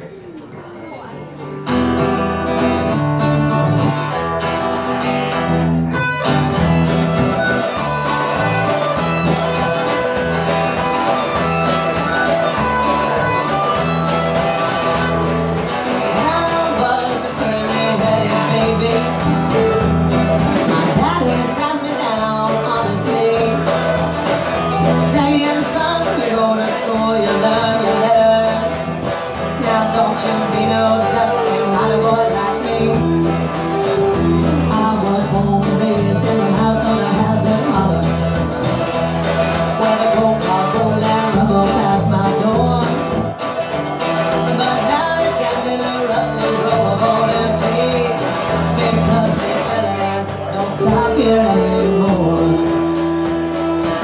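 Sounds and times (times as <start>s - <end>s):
live rock band playing: 1.2s - 54.0s
woman singing: 6.8s - 38.5s, 39.5s - 43.4s, 44.1s - 54.0s.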